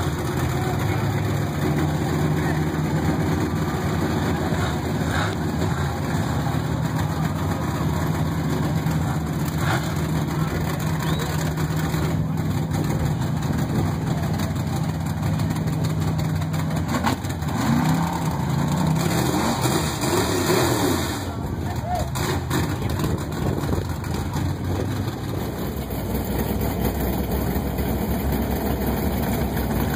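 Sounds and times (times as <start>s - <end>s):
truck engine droning: 0.0s - 29.9s.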